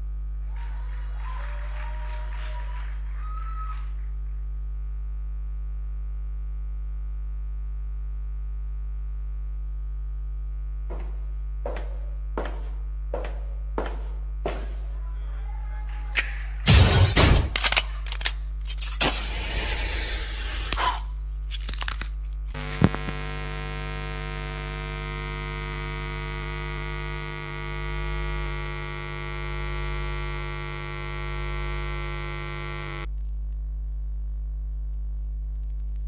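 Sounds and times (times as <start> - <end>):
electrical hum from sound system: 0.0 - 36.0.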